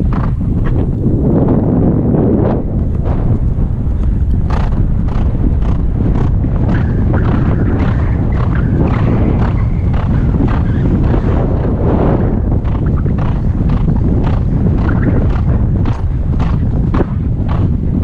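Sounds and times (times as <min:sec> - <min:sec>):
horse hoofbeats on grass: 0:00.0 - 0:00.9, 0:02.7 - 0:18.0
wind rumble on microphone: 0:00.0 - 0:18.0.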